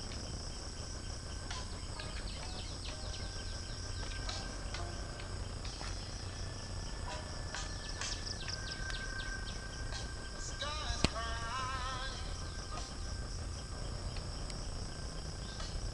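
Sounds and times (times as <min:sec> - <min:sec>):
high-pitched insect drone: 0:00.0 - 0:15.9
low rumble: 0:00.0 - 0:15.9.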